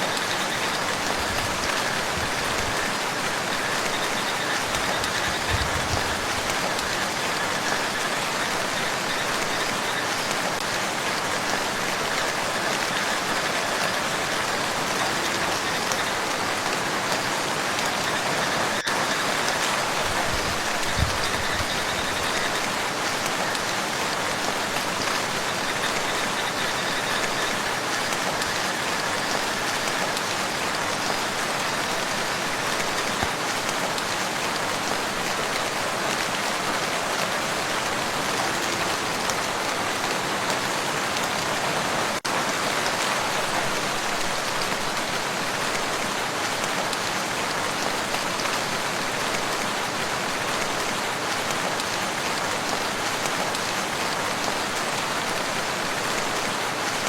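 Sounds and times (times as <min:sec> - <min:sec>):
rain falling on a lake: 0:00.0 - 0:57.0.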